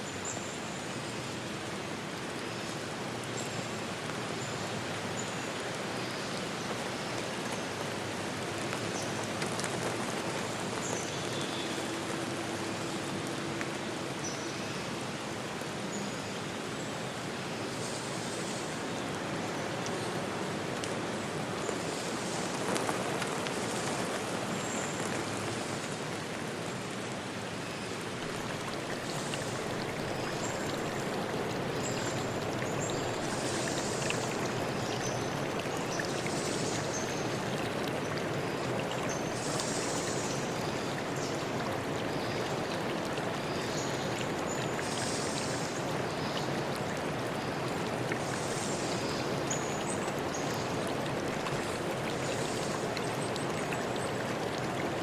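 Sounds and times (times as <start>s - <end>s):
forest stream rushing: 0.0s - 55.0s.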